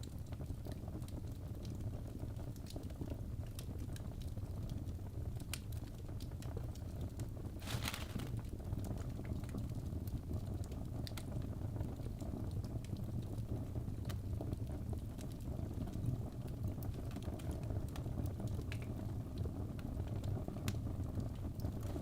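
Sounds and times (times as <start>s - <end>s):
wood fire crackling: 0.1s - 22.0s.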